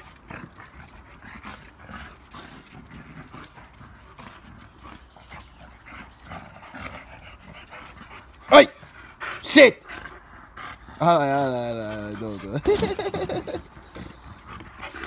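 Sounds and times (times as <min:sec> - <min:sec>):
dogs scuffling: 0:00.0 - 0:15.0.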